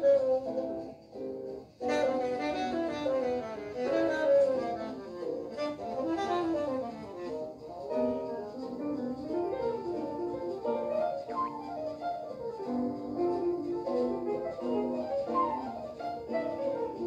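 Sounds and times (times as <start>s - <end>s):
saxophone: 0.0s - 1.0s, 1.8s - 17.0s
small jazz group playing: 0.0s - 17.0s.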